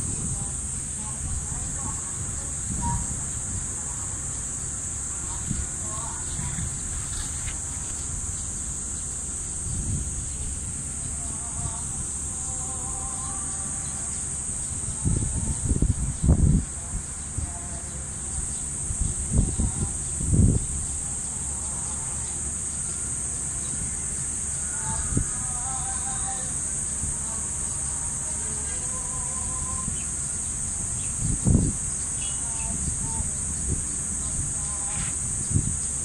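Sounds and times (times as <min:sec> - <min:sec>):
high-pitched insect drone: 0:00.0 - 0:36.0
low rumbling bursts: 0:00.0 - 0:36.0.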